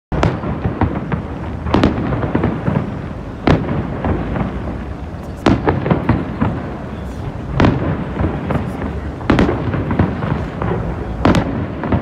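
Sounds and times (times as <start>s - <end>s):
fireworks bangs and crackles: 0.1s - 12.0s
steady low rumble: 0.1s - 12.0s.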